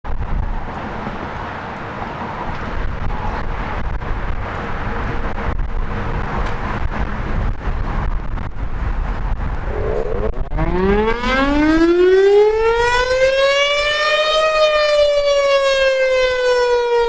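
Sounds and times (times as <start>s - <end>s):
wind buffeting microphone: 0.1s - 15.8s
road traffic rumble: 0.1s - 17.0s.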